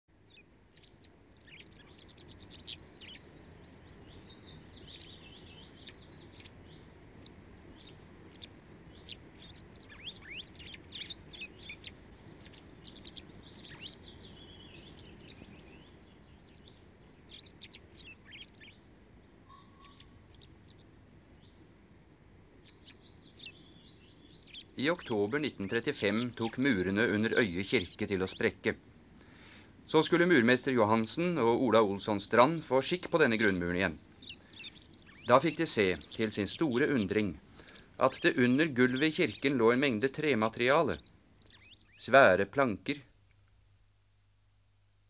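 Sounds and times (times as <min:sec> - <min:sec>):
songbirds chirping and trilling: 0:00.1 - 0:44.4
low steady hiss: 0:00.1 - 0:45.0.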